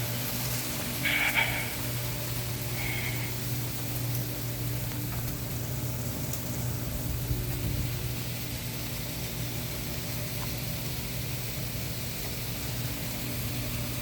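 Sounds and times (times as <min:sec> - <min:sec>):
air conditioner compressor hum: 0:00.0 - 0:14.0
fan hiss: 0:00.0 - 0:14.0.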